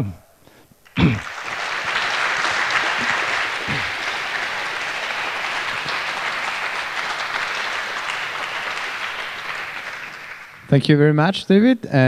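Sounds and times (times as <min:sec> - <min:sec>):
audience applauding: 0:00.9 - 0:10.8.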